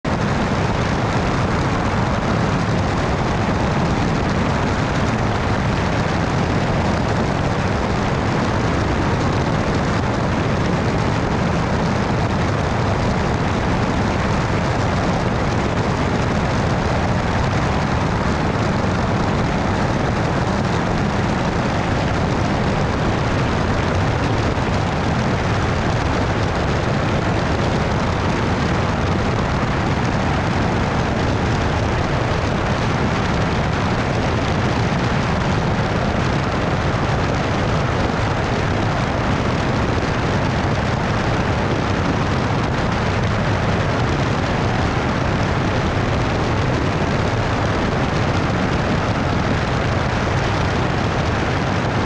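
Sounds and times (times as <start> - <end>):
plane engine and propeller: 0.0 - 52.0
wind rushing over camera: 0.0 - 52.0.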